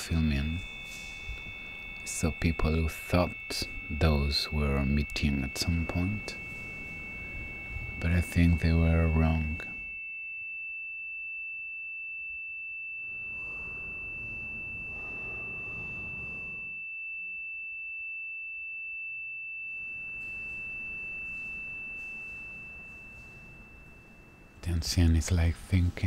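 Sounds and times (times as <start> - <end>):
steady high pure tone: 0.0 - 26.0.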